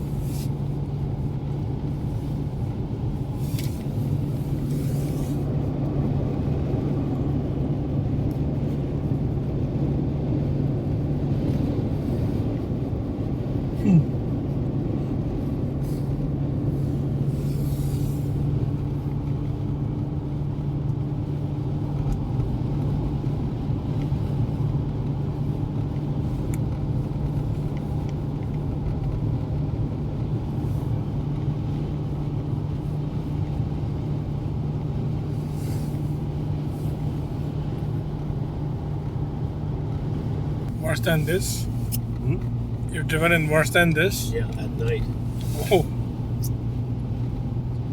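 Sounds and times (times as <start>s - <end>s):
car engine hum: 0.0s - 47.9s
tyre and road noise: 0.0s - 47.9s.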